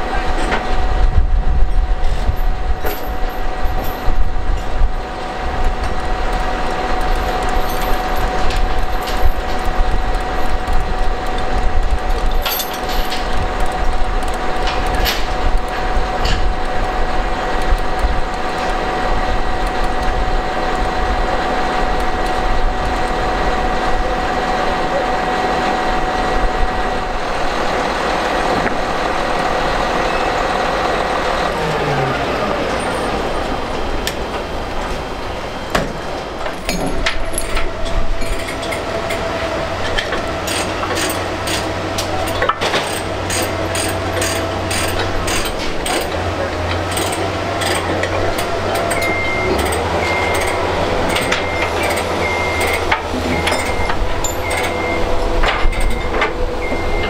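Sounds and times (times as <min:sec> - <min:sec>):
diesel engine running: 0:00.0 - 0:57.0
high engine whine: 0:00.0 - 0:57.0.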